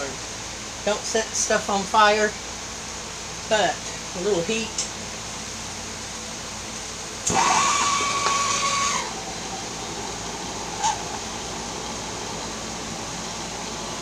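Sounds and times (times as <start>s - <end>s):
hot-air blower hissing: 0.0s - 14.0s.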